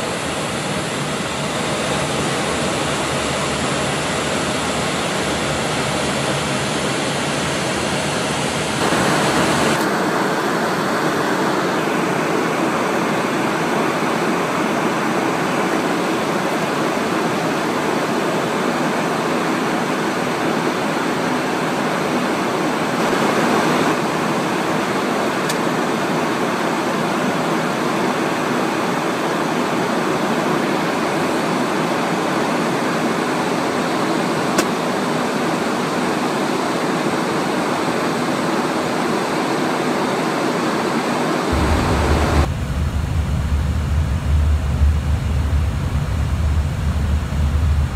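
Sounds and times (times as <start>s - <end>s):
rushing airflow in cockpit: 0.0s - 47.9s.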